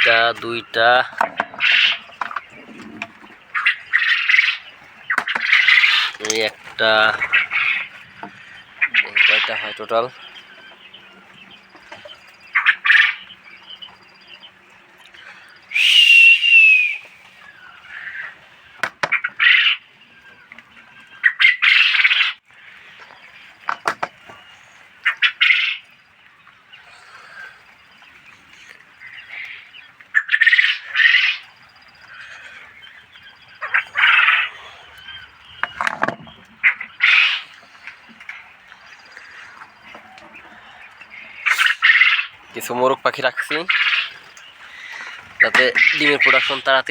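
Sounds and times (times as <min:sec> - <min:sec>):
quail calling: 0:00.0 - 0:46.9.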